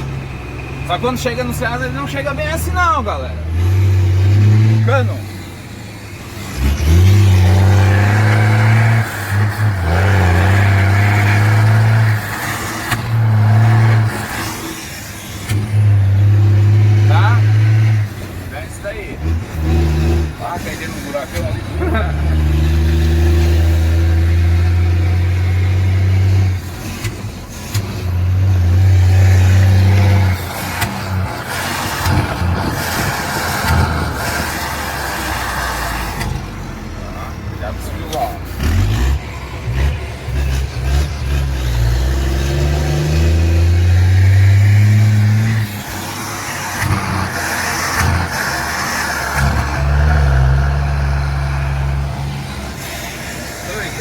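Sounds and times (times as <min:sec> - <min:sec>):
rattling road noise: 0:00.0 - 0:54.0
truck diesel engine drone: 0:00.0 - 0:54.0.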